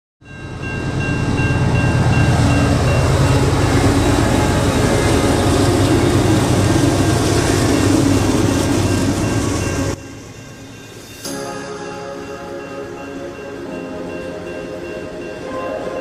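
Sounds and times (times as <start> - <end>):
train rumbling: 0.2 - 16.0.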